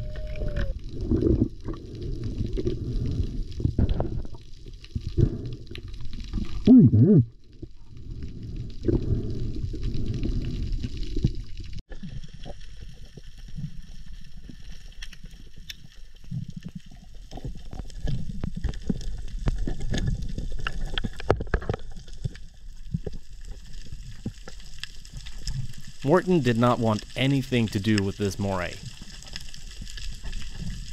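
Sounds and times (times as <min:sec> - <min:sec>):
sharp underwater clicks and crackles: 0:00.0 - 0:06.7, 0:07.3 - 0:30.9
underwater rumble of moving water: 0:00.0 - 0:30.9.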